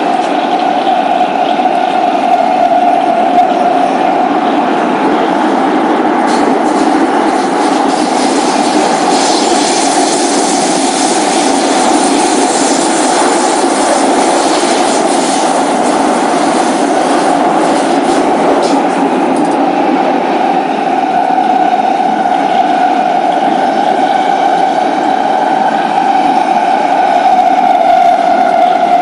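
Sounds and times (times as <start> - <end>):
train rushing noise: 0.0 - 29.0.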